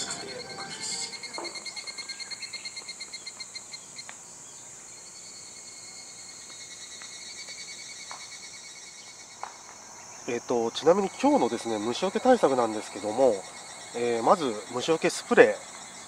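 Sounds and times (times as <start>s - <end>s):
crickets chorus: 0.0s - 16.0s
rapid pulsing insect chirp: 0.0s - 16.0s.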